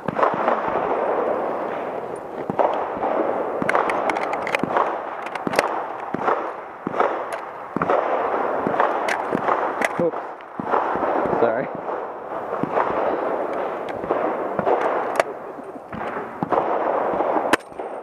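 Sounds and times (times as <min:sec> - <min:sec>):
sharp rifle shots with echo: 0:00.0 - 0:18.0.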